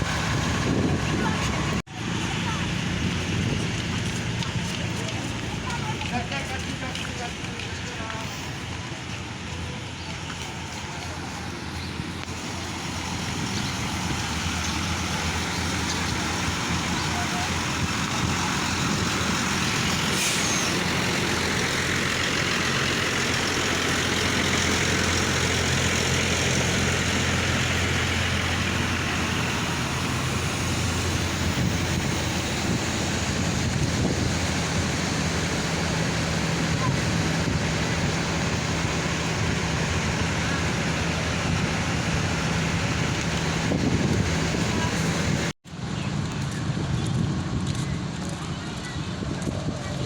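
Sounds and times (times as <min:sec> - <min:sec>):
diesel bus engine running: 0:00.0 - 0:50.0.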